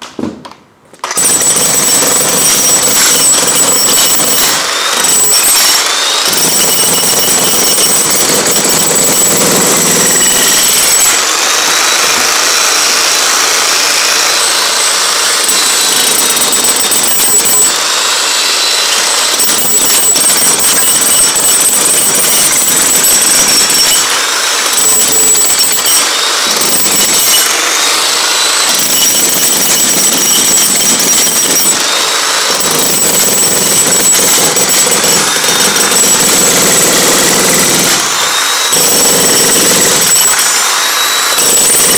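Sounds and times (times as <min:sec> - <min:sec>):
demolition hammer pounding concrete: 0:00.0 - 0:41.9.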